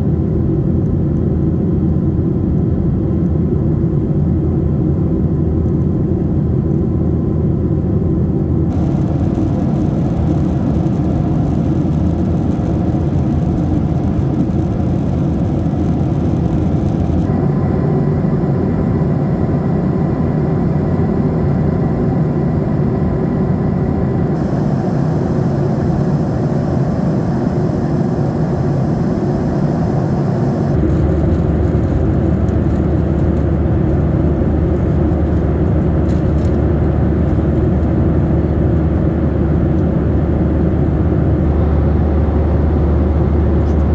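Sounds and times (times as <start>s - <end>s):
jet engine cabin hum: 0.0s - 43.9s
air rushing along fuselage: 8.7s - 43.9s.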